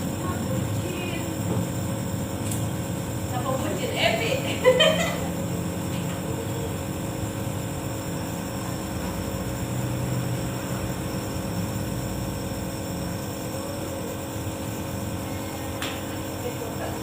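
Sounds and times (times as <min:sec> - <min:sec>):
nebulizer compressor humming: 0:00.0 - 0:17.0.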